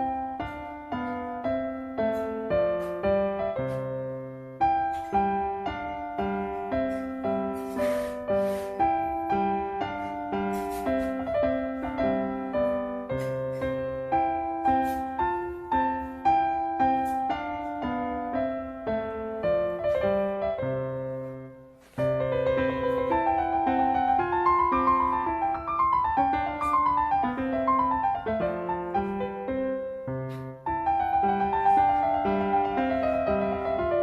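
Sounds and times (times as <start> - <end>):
light piano music: 0.0 - 34.0.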